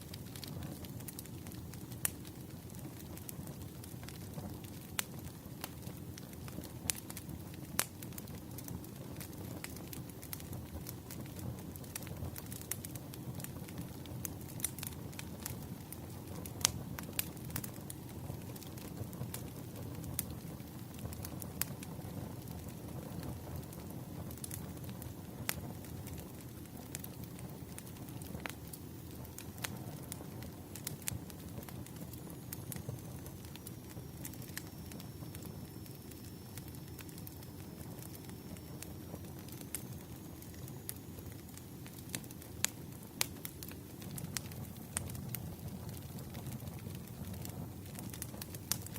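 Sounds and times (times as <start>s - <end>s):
fire rumbling: 0.0s - 48.9s
firewood crackling and popping: 0.0s - 48.9s.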